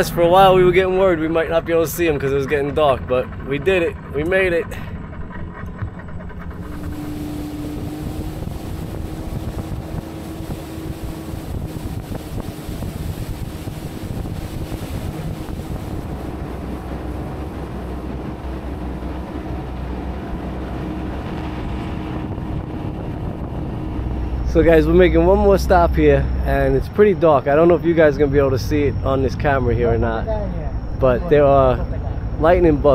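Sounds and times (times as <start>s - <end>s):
motorboat engine running: 0.0s - 32.9s
water and hull noise: 0.0s - 32.9s
wind buffeting microphone: 0.0s - 32.9s.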